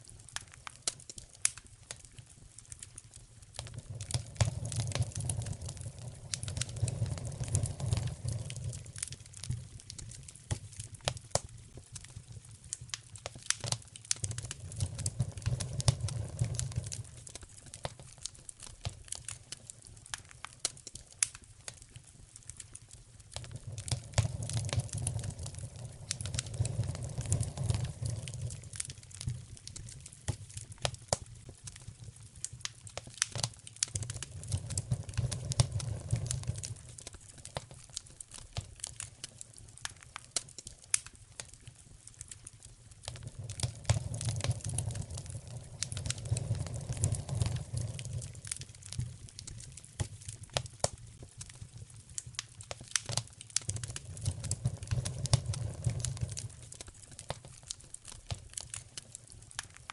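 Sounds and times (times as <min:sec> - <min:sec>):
low rumble of fire: 0:00.0 - 0:59.9
sharp pops and snaps: 0:00.0 - 0:59.9
wood fire crackling: 0:00.0 - 0:59.9.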